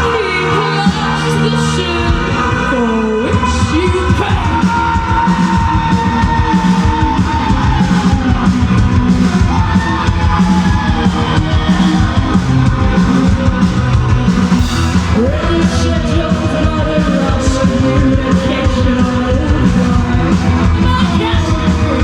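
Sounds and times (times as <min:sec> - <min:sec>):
heavy rock band playing live: 0:00.0 - 0:22.0.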